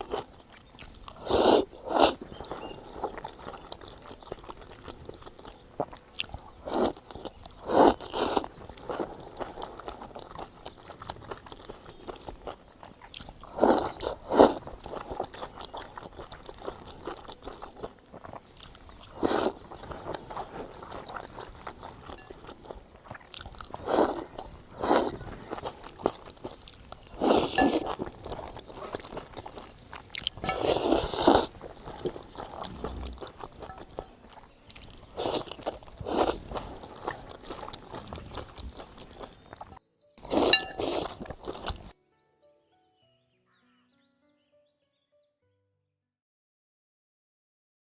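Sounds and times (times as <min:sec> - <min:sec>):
person eating crunchy food: 0:00.0 - 0:42.0.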